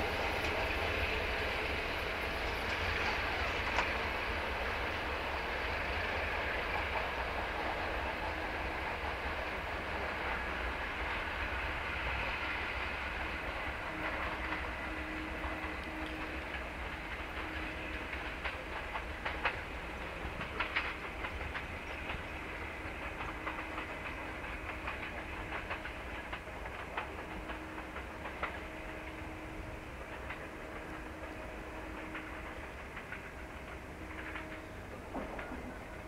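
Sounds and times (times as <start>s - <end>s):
train coaches rolling over rails: 0.0s - 36.0s.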